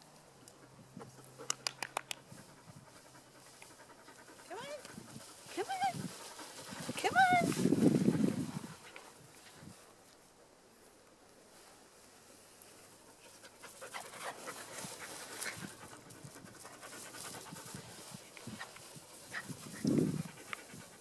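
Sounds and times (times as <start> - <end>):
small dog panting: 0.5 - 9.7, 13.0 - 21.0.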